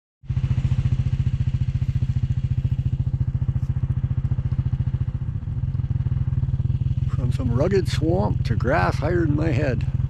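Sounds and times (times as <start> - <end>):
atv engine putter: 0.4 - 10.0.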